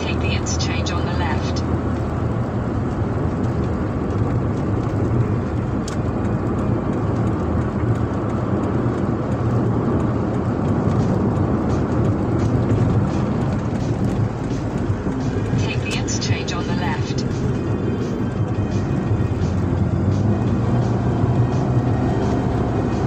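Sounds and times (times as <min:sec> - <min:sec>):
car cruising on highway: 0:00.0 - 0:23.0.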